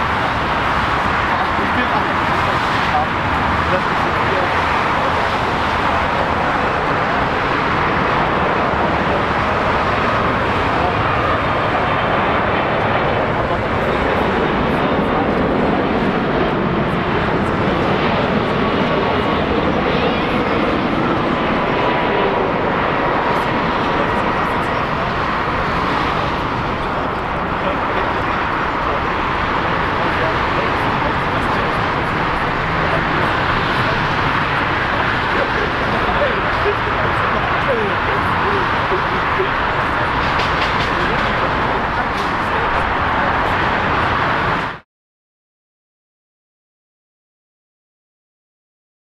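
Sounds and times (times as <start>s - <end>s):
jet engines rushing: 0.0s - 44.8s.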